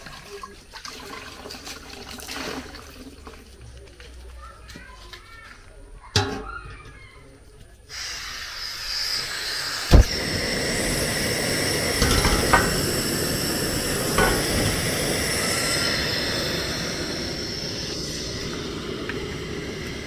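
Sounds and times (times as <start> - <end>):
pot sizzling over fire: 0.0 - 5.4, 7.8 - 20.0.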